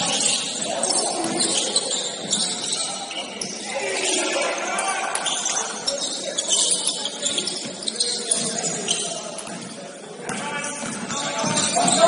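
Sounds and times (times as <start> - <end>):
gym hall hubbub: 0.0 - 12.0.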